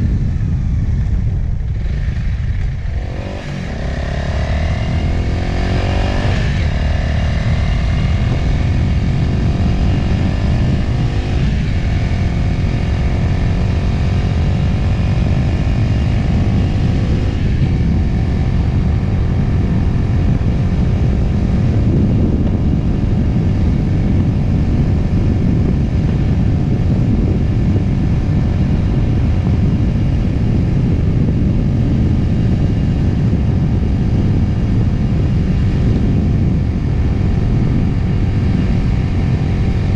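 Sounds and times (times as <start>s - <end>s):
motorcycle engine accelerating: 0.0s - 39.9s
wind and road noise rumble: 0.0s - 39.9s.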